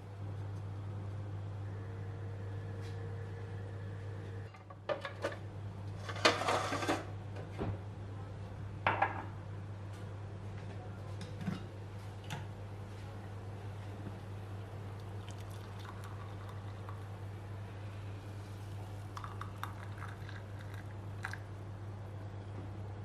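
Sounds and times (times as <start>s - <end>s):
steady low hum: 0.0s - 6.3s, 6.9s - 23.0s.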